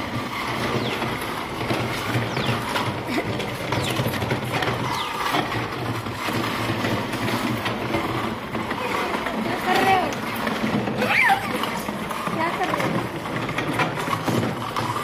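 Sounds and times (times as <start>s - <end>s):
plastic toy wheels rattling on bricks: 0.0s - 15.0s.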